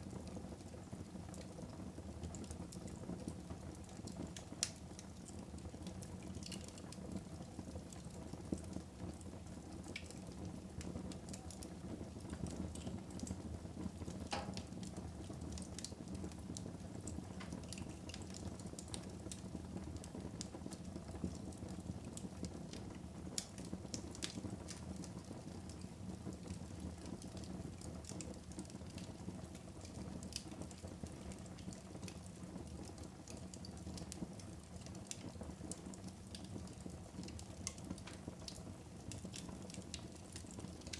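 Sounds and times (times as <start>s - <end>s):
fire crackling in fireplace: 0.0s - 40.9s.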